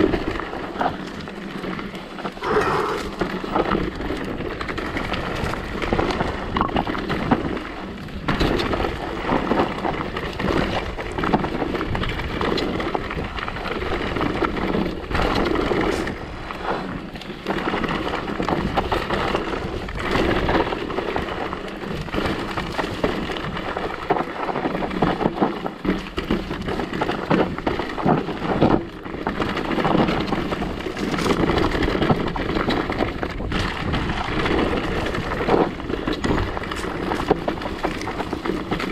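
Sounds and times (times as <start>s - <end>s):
bike rattling over bumps: 0.0s - 38.9s
bike tyres on dirt and stones: 0.0s - 38.9s.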